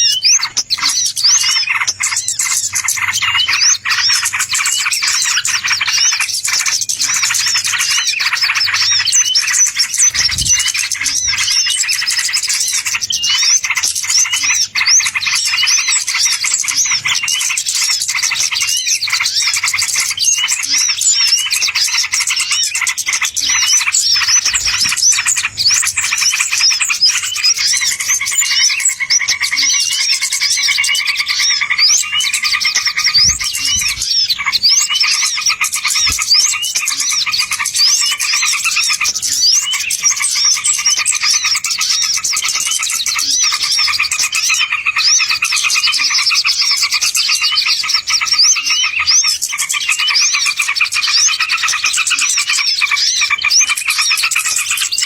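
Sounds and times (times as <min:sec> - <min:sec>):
low steady bird trilling: 0:00.0 - 0:55.0
songbirds chirping: 0:00.0 - 0:55.0.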